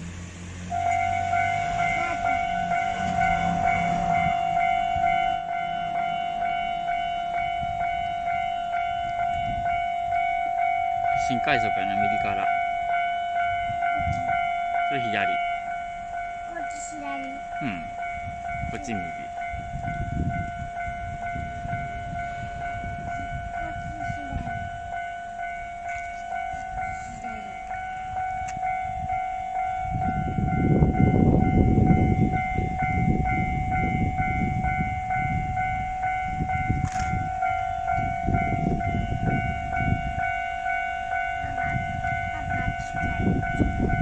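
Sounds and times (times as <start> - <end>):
electric train rumbling: 0.0 - 44.0
level-crossing bell ringing: 0.7 - 44.0.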